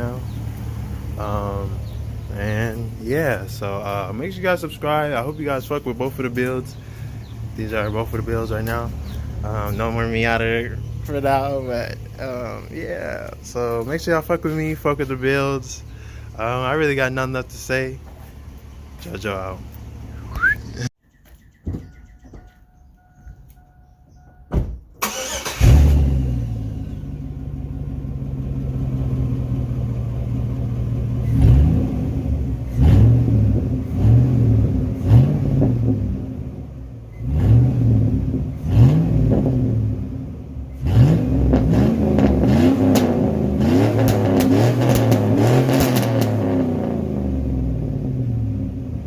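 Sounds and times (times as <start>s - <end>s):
car engine starting and revving: 0.0s - 17.7s, 25.0s - 49.0s.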